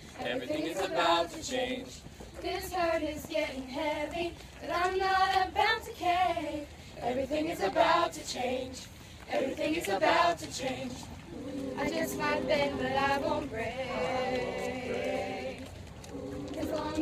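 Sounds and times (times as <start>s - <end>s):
girls singing together: 0.2s - 17.0s.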